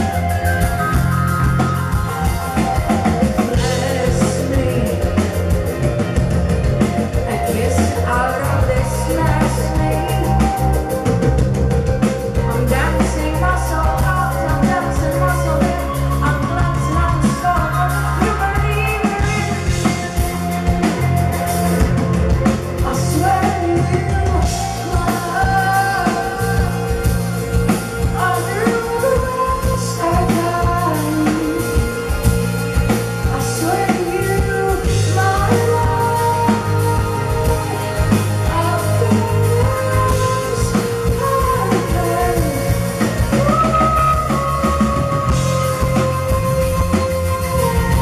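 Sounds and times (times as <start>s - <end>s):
bass notes: 0.0s - 48.0s
drum kit: 0.0s - 48.0s
electric guitar: 0.0s - 48.0s
woman singing: 0.0s - 48.0s.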